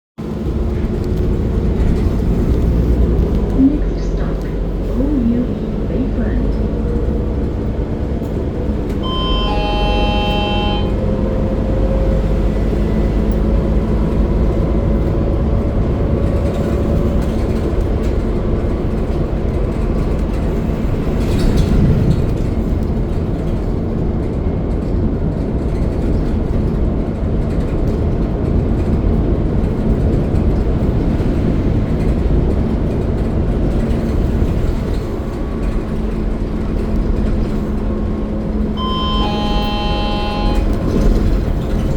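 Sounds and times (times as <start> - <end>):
vehicle rumble from inside: 0.2 - 41.9.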